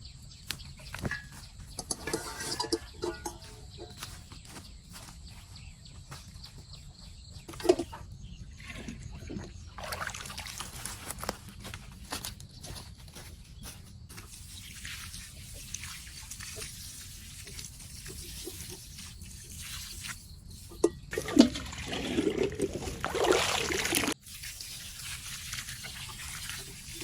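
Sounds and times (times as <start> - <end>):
water trickling and splashing: 0.4 - 27.0.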